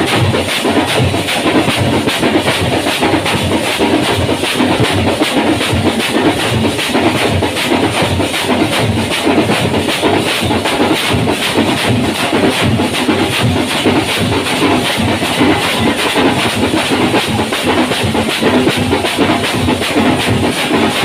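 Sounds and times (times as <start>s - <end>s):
frame drums beaten with sticks: 0.0s - 21.0s.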